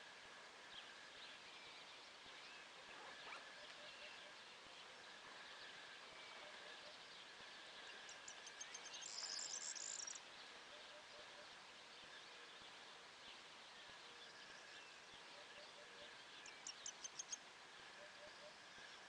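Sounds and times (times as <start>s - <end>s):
distant birdsong: 0.0s - 19.0s.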